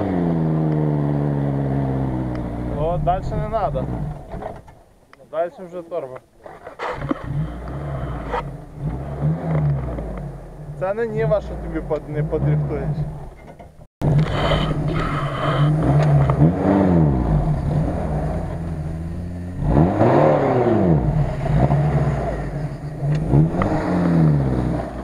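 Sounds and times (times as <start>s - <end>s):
engine revving under load: 0.0s - 4.6s, 6.6s - 13.2s, 14.0s - 25.0s.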